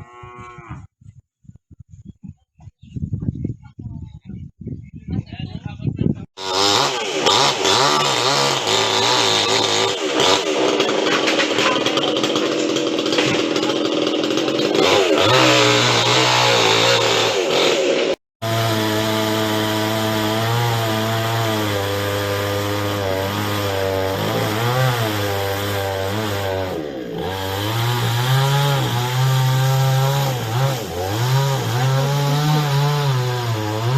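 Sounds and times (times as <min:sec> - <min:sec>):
chainsaw revving cutting wood: 0:06.4 - 0:33.9.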